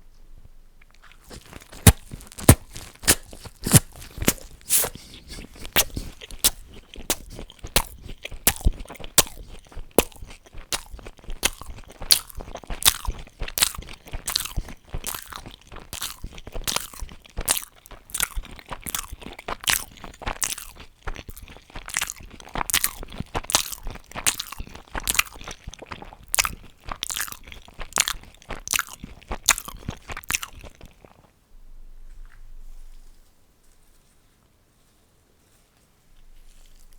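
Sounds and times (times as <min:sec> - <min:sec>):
chewing crunchy fried food: 0:00.8 - 0:31.4, 0:36.2 - 0:36.9.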